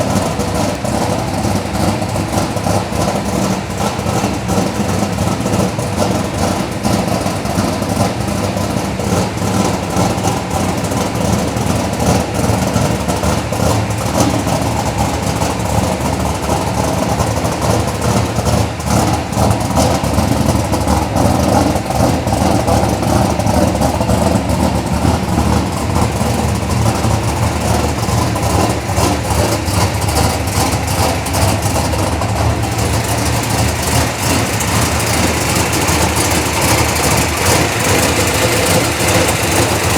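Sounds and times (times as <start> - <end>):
vee eight engine idling loud: 0.0 - 39.9.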